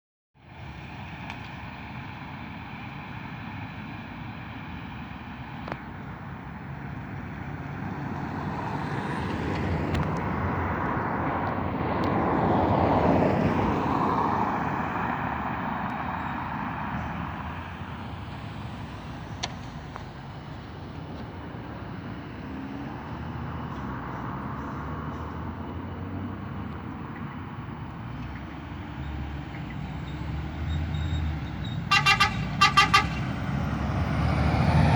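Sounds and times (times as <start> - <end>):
street noise: 0.4 - 34.9
vehicle passing by: 1.7 - 34.9.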